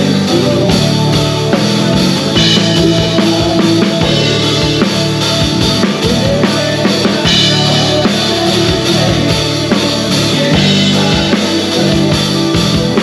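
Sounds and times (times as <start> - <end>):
country band playing: 0.0 - 13.0.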